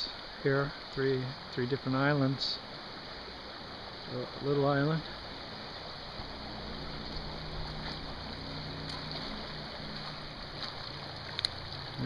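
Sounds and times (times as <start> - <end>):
river water rushing: 0.0 - 12.0
faint low hum: 0.1 - 12.0.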